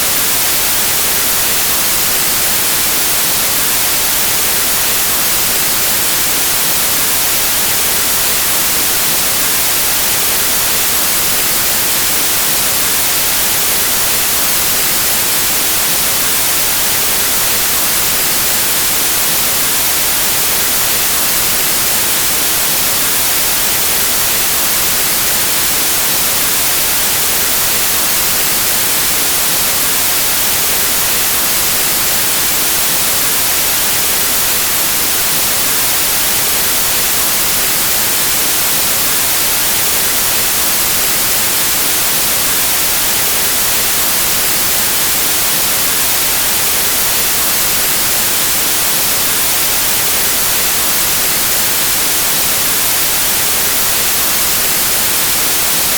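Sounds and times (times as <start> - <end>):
static hiss: 0.0 - 55.9.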